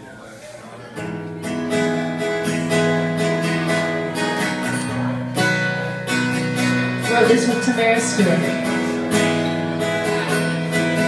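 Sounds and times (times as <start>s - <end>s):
acoustic guitar strumming: 0.8s - 11.0s.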